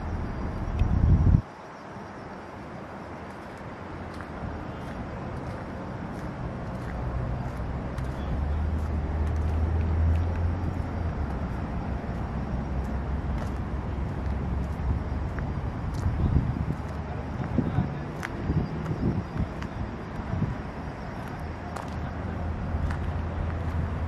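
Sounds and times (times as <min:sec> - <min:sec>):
passing vehicle rumble: 0:03.8 - 0:24.0.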